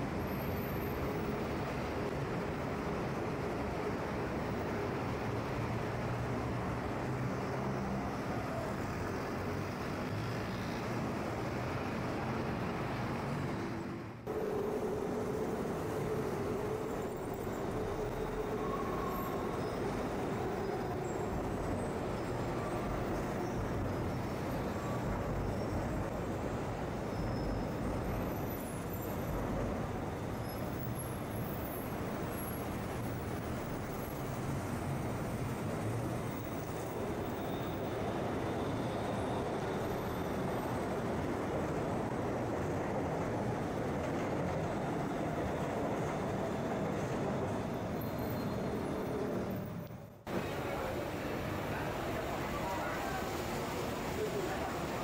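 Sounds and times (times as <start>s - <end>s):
city street traffic: 0.0s - 55.0s.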